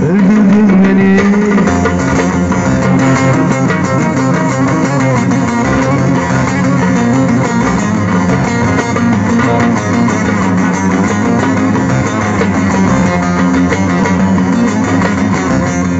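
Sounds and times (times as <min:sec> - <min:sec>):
instrumental folk music plucked strings: 0:00.0 - 0:15.9.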